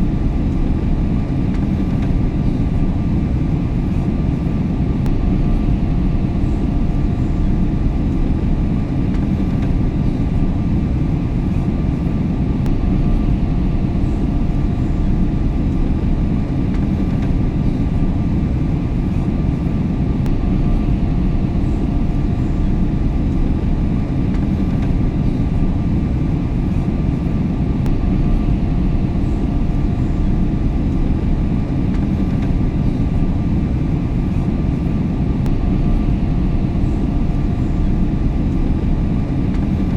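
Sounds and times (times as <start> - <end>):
airplane cabin rumble: 0.0 - 39.9
faint steady hum tones: 0.0 - 39.9.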